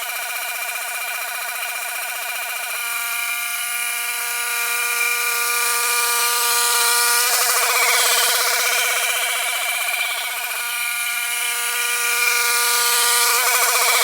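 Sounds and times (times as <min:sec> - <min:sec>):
brush cutter engine whining: 0:00.0 - 0:14.0.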